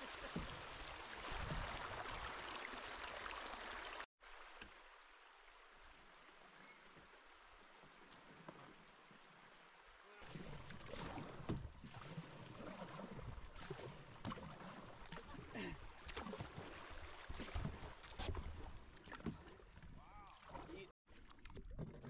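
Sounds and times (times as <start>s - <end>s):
faint flowing water: 0.0s - 22.0s
paddle strokes and splashing water: 0.0s - 22.0s.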